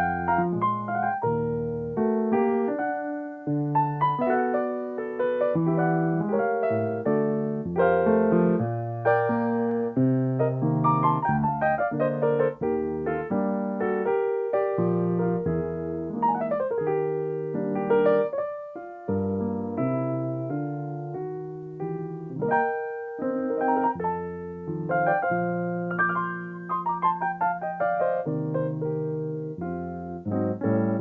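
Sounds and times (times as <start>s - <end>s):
solo piano chords and runs: 0.0s - 31.0s.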